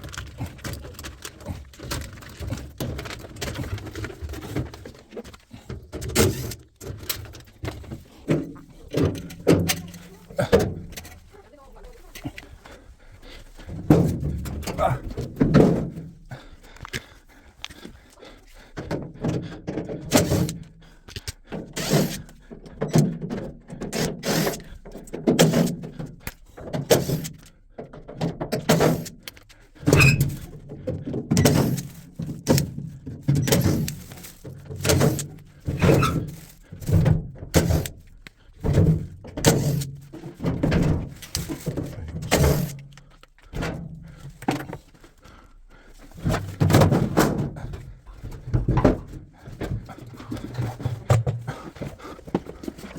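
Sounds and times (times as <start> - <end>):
thunks and knocks of washing machine parts: 1.7 - 11.3, 13.6 - 16.3, 18.8 - 20.7, 21.6 - 44.8, 46.1 - 52.9.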